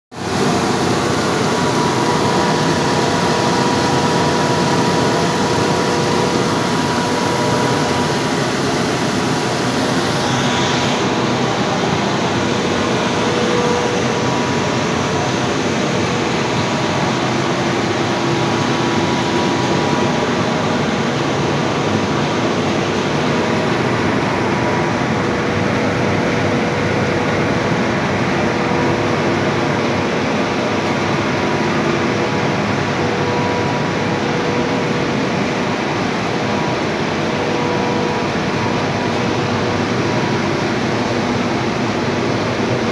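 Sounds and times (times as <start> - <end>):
machinery mechanical hum: 0.2 - 42.9.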